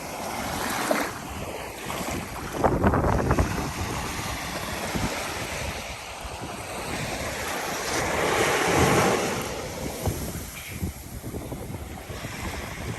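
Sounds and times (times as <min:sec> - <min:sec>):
surf washing onto beach: 0:00.0 - 0:12.9
wind on microphone: 0:00.0 - 0:12.9.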